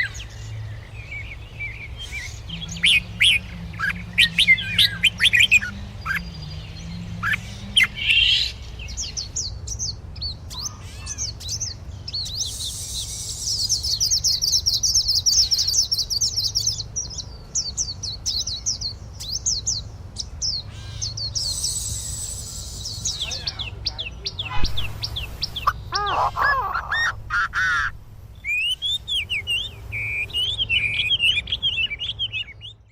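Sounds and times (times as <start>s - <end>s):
bird chirping: 0.0s - 32.9s.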